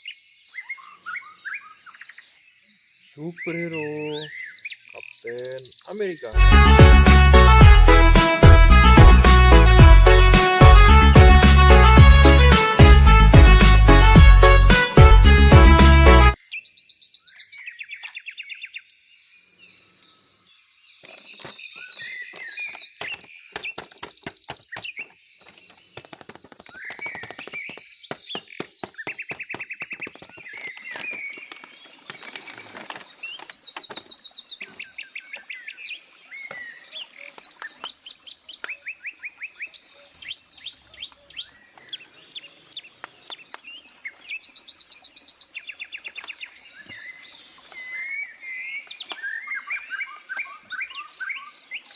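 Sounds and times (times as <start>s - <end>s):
small birds chirping: 0.0s - 6.4s, 16.4s - 51.9s.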